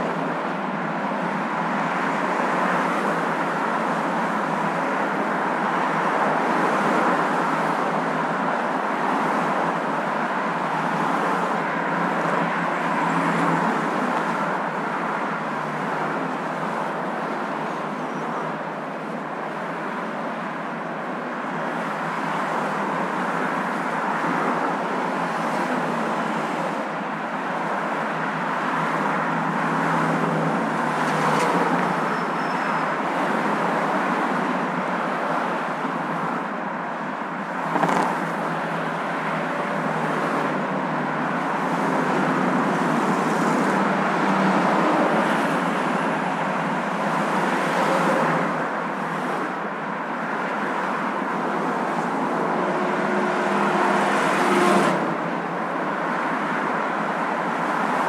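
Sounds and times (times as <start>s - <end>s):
car road noise hum: 0.0s - 58.0s.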